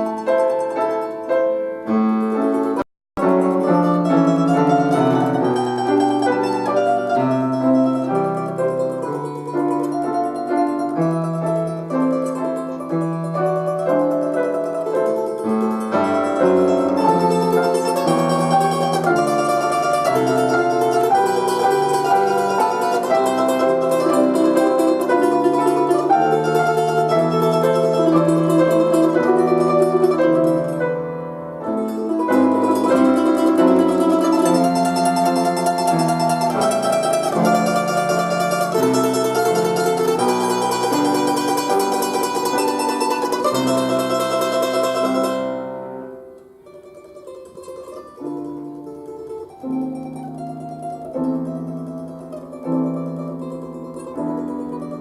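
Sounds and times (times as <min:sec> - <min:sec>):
plucked string instrument melody: 0:00.0 - 0:55.0.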